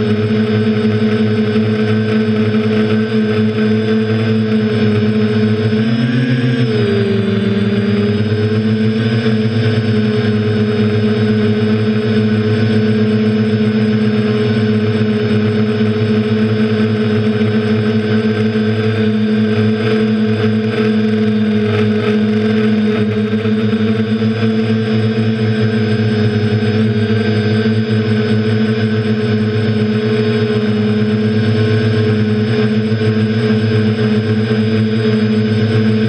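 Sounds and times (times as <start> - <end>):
drone motors whining: 0.0 - 36.0.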